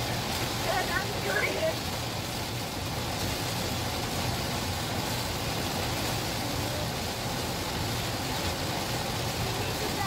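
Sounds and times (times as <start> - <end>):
heavy rain on a car: 0.0 - 10.0
tyres on wet road: 0.0 - 10.0.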